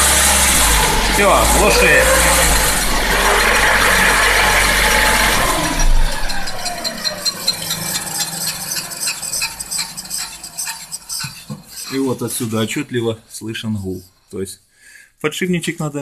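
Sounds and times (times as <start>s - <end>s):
falling whine with rattling: 0.0s - 13.3s
wheel bearing hum: 0.0s - 13.4s.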